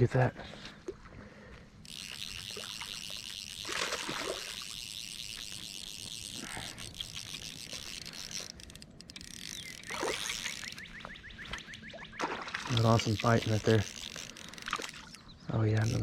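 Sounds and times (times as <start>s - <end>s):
fishing reel drag ratcheting: 1.8s - 11.8s, 12.7s - 16.0s.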